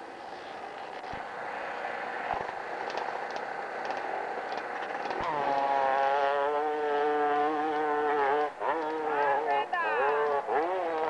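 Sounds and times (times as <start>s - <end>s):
dirt bike engine at high revs: 0.0s - 11.0s
indistinct engine noise: 0.0s - 11.0s.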